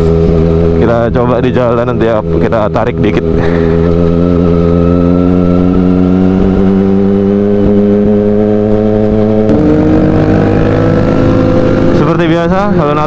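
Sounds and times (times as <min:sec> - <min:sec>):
loud motorcycle engine: 0:00.0 - 0:13.0.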